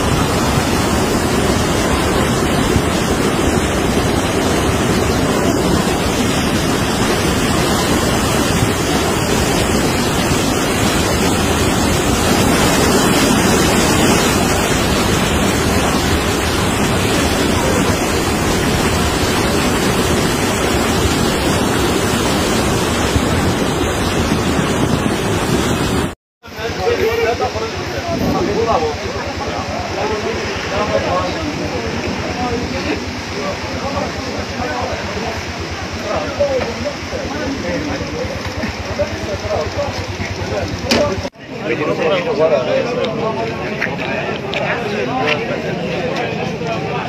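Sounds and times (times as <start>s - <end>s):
floodwater rushing: 0.0s - 47.0s.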